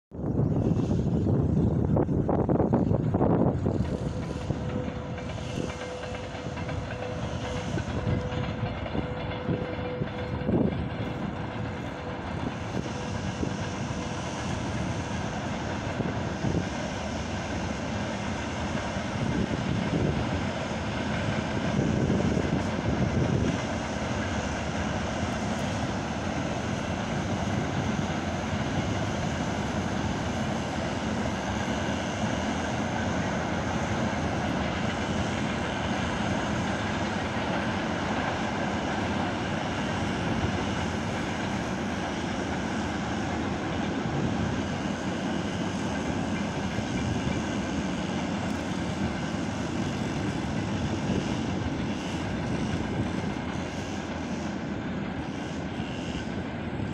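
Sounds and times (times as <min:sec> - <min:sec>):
freight train rumbling past: 0:00.1 - 0:56.9.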